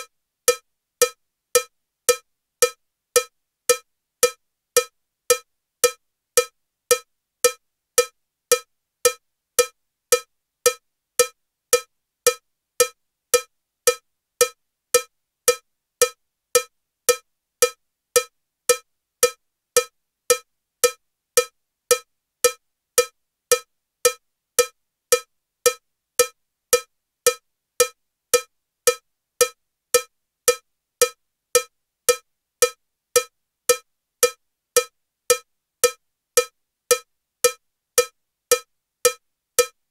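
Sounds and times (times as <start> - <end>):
cowbell metronome ticking: 0.0 - 39.8.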